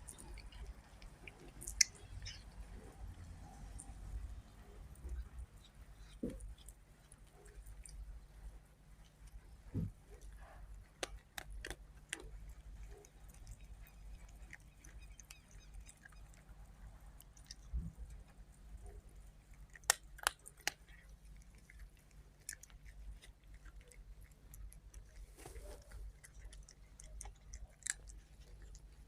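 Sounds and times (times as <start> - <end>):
kitten chewing: 0.0 - 29.0.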